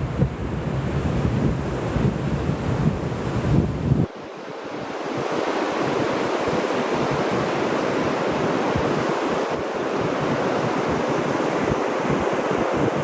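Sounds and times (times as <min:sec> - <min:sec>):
ocean waves breaking on beach: 0:00.0 - 0:13.0.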